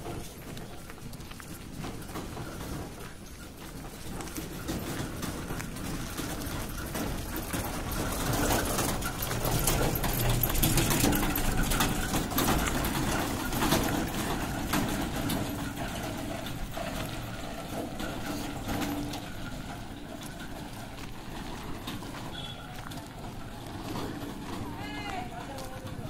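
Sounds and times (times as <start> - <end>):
rickshaw body rattling: 0.0 - 26.0
tyres crunching over gravel: 0.0 - 26.0.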